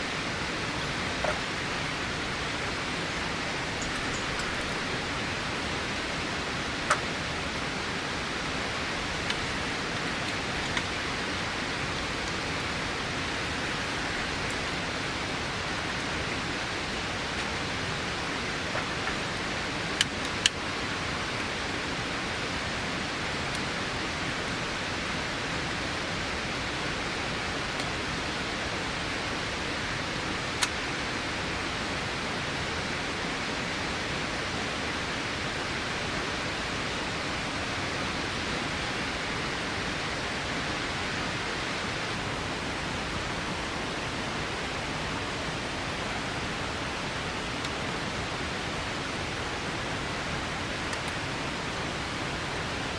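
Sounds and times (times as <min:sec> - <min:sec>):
heavy rain hissing: 0:00.0 - 0:52.9.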